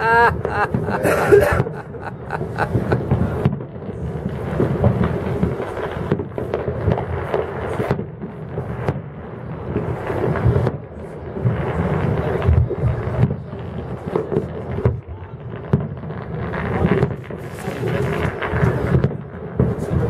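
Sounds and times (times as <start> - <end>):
distant fireworks bursting: 0.0 - 20.0.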